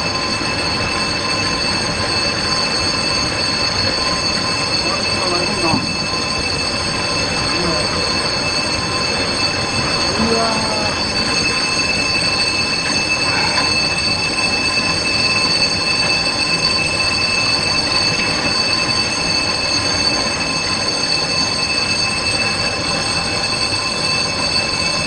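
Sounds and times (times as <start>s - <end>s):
steady high squeal: 0.0s - 25.0s.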